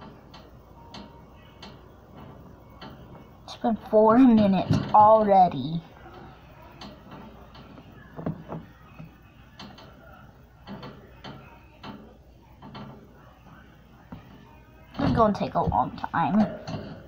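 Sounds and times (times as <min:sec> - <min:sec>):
faint clicks and taps: 0:00.0 - 0:03.3, 0:04.3 - 0:17.0.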